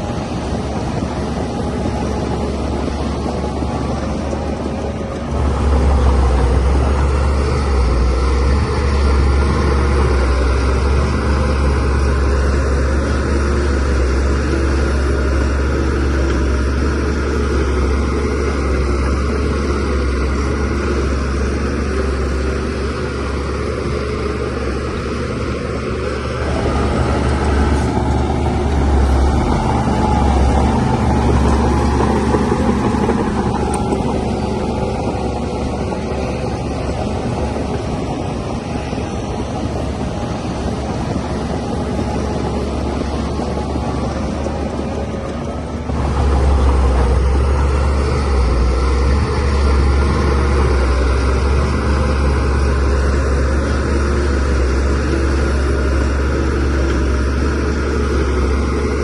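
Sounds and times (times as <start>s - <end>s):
bulldozer diesel engine droning: 0.0s - 59.0s
soil being pushed: 0.0s - 59.0s.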